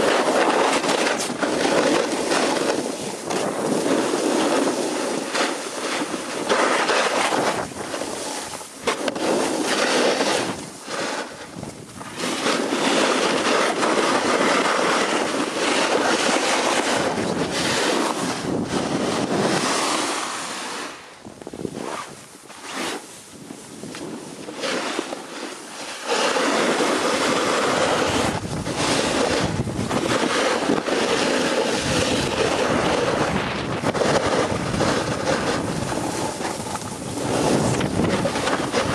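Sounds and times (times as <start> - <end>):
ski edges scraping snow: 0.0 - 38.9
wind rushing on microphone: 0.0 - 38.9.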